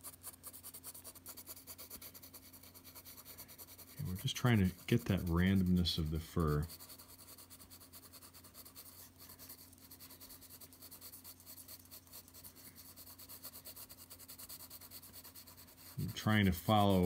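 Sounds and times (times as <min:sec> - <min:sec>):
pencil scratching on paper: 0:00.0 - 0:17.0.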